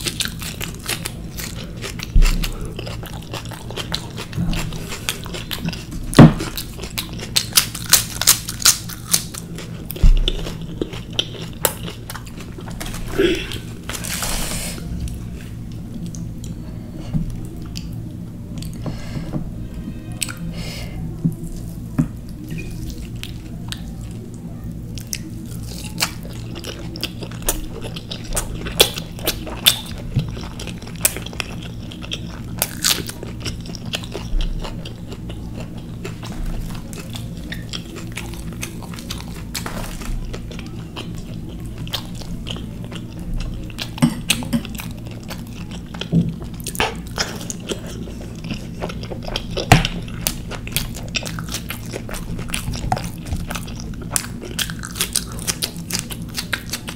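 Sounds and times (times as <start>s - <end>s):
person chewing and biting: 0.0s - 16.6s, 25.0s - 56.9s
steady low hum: 0.0s - 56.9s.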